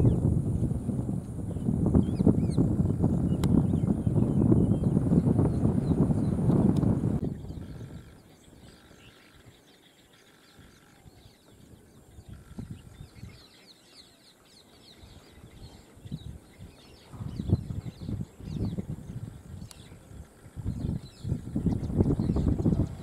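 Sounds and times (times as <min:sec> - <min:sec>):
birds calling: 0:01.5 - 0:23.0.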